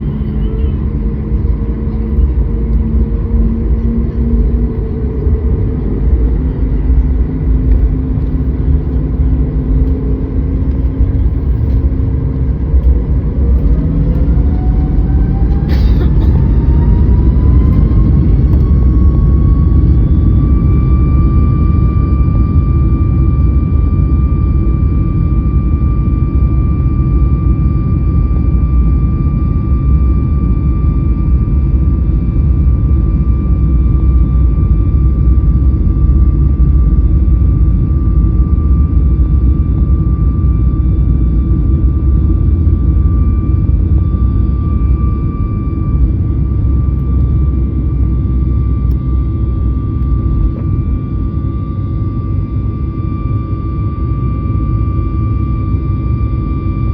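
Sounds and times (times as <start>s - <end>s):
jet engines spooling up: 0.8s - 56.9s.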